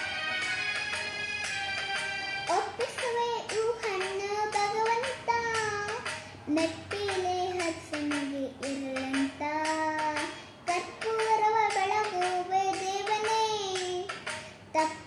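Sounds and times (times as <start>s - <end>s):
girl singing: 2.4s - 15.0s.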